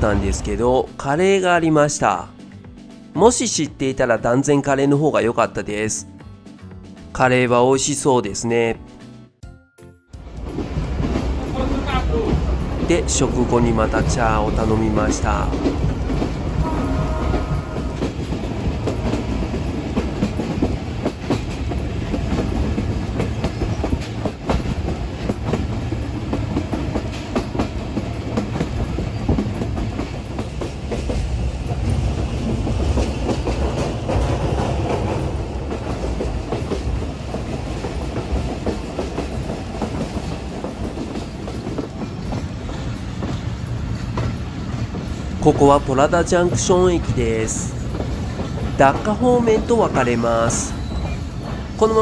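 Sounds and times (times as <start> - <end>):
train rumble: 0.0 - 5.9, 10.2 - 52.0.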